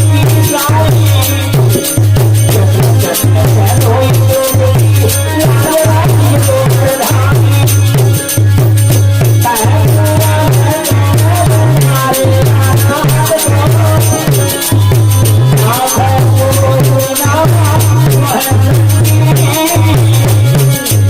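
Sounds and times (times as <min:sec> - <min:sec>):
drum beat: 0:00.0 - 0:21.0
shaken rattle percussion: 0:00.0 - 0:21.0
wavering melody: 0:00.0 - 0:21.0.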